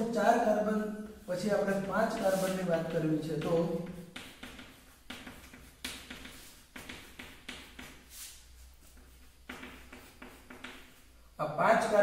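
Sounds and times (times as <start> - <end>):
chalk tapping and scratching: 0.0 - 12.0.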